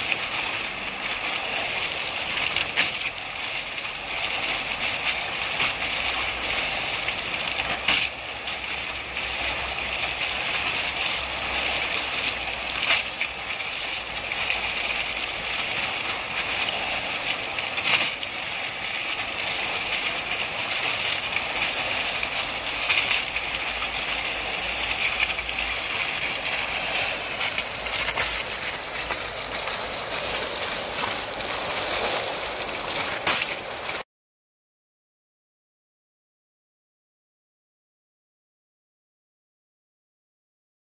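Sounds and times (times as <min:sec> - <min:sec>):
fountain water splashing on pebbles: 0:00.0 - 0:34.0.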